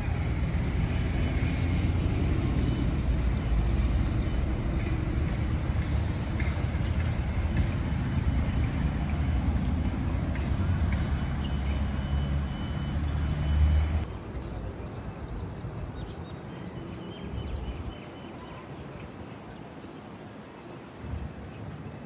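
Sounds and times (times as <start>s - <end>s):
street ambience: 0.0s - 22.0s.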